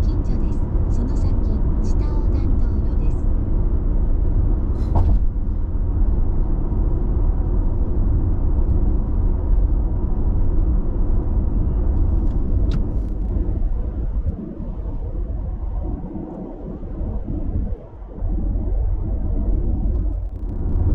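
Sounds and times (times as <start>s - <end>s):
car road and tyre noise: 0.0s - 20.9s.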